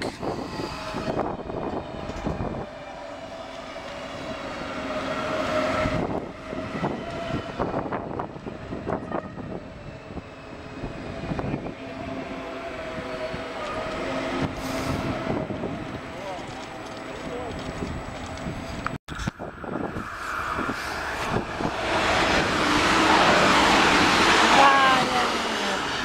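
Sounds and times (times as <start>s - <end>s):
electric train passing humming: 0.0s - 26.0s.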